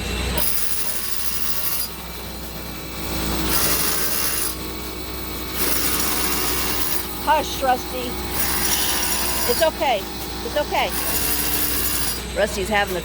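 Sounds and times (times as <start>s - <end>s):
large drill grinding: 0.0s - 13.0s.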